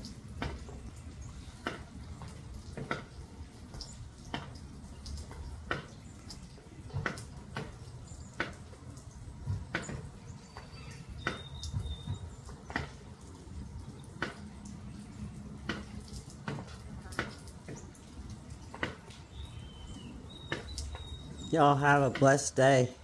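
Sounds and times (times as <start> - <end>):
rainwater dripping: 0.0 - 23.0.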